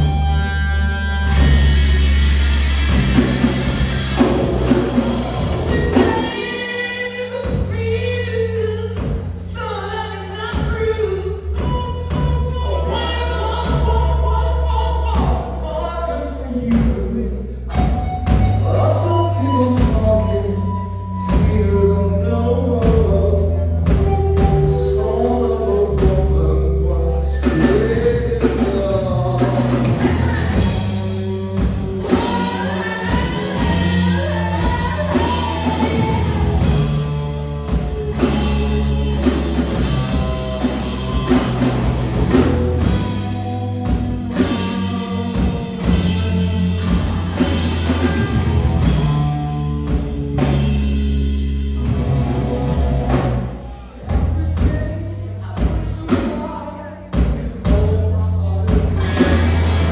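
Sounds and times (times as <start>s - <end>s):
electric guitar: 0.0s - 9.3s, 17.7s - 54.7s, 57.1s - 59.9s
bass guitar: 0.0s - 59.9s
drum kit: 0.0s - 59.9s
person singing: 4.2s - 59.9s.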